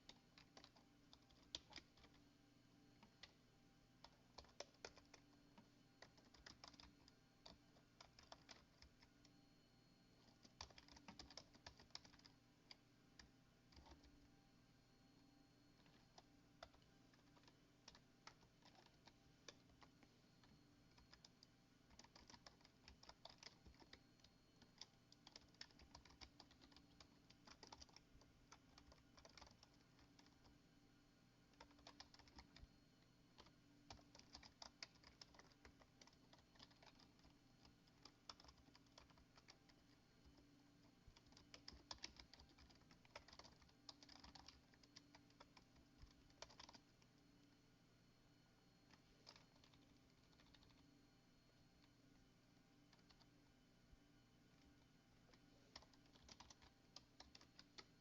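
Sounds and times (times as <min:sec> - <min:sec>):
faint keyboard typing: 0:00.0 - 0:58.0.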